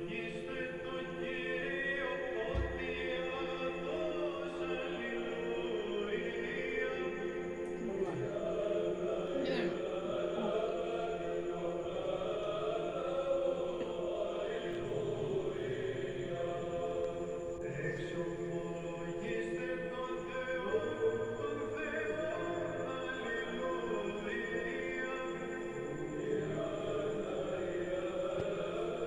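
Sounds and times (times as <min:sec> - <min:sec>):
choir-like voices holding chords: 0:00.0 - 0:29.0.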